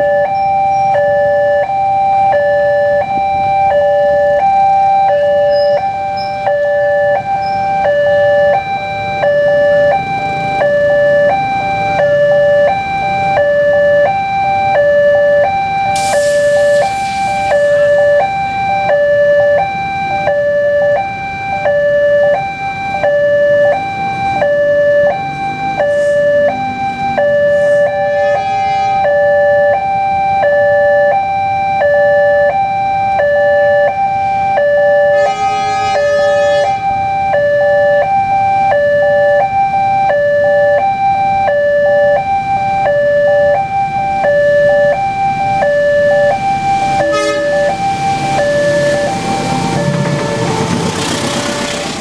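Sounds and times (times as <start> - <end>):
two-tone crossing alarm: 0.0 - 52.0.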